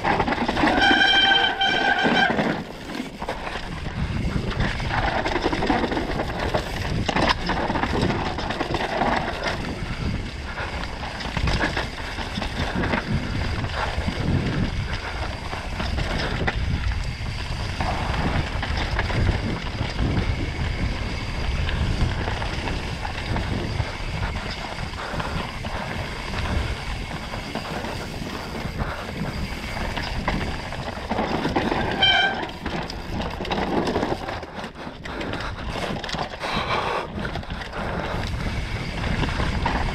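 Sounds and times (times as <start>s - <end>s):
bike knocking and rattling: 0.0s - 39.9s
bike tyres rumbling over dirt: 0.0s - 39.9s
wind on microphone: 0.0s - 39.9s.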